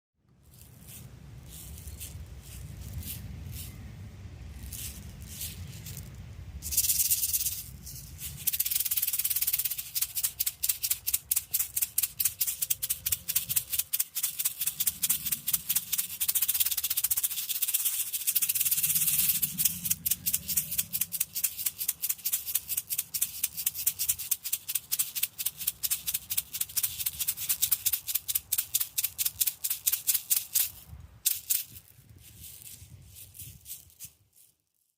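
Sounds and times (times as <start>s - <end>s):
hand rattle shaking: 0.6s - 3.8s, 4.5s - 34.9s.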